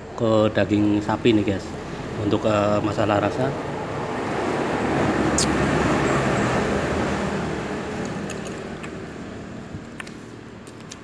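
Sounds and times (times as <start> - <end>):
road vehicle passing: 0.8 - 11.0.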